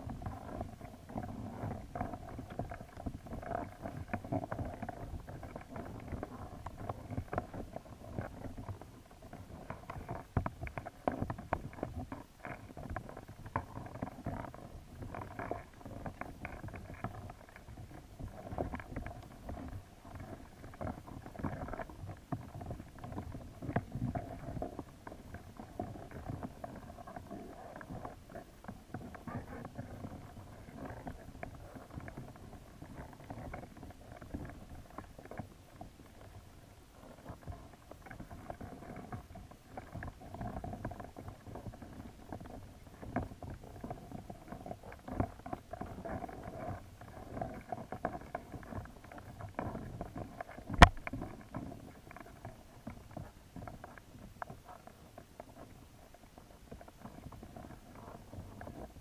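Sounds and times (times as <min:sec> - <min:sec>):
muffled underwater water rumble: 0:00.0 - 0:59.0
underwater clicks and knocks: 0:00.0 - 0:59.0.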